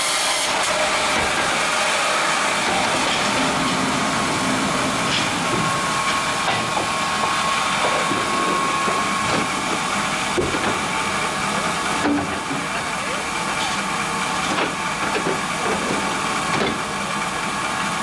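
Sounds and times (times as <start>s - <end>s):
band sawmill whirring: 0.0s - 18.0s.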